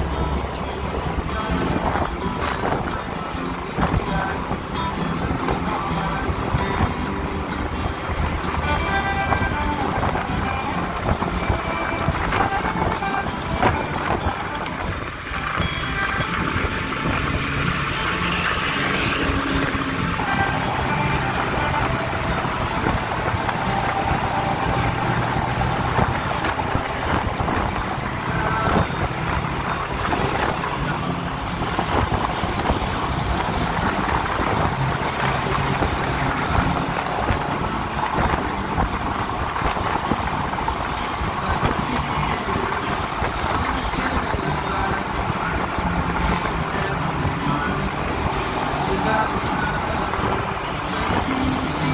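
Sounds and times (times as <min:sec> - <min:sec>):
low engine hum: 0:00.0 - 0:51.9
tyre and wind noise: 0:00.0 - 0:51.9.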